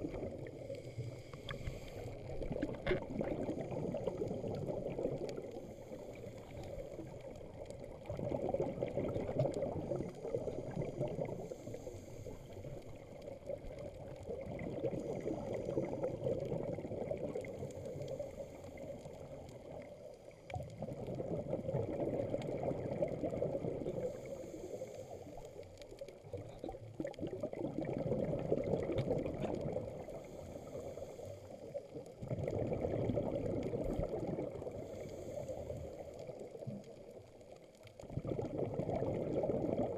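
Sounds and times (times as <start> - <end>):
underwater rush of water: 0.0 - 39.9.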